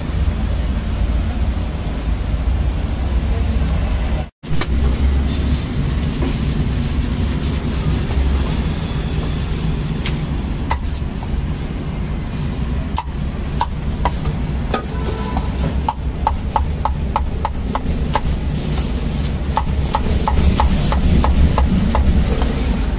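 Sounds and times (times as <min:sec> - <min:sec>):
street traffic rumble: 0:00.0 - 0:22.9.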